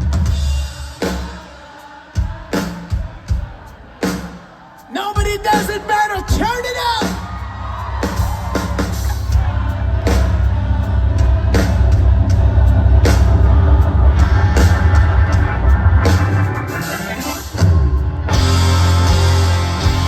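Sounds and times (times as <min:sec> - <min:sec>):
live rock band playing: 0:00.0 - 0:04.5, 0:05.2 - 0:20.0
drum and cymbal hits: 0:00.0 - 0:20.0.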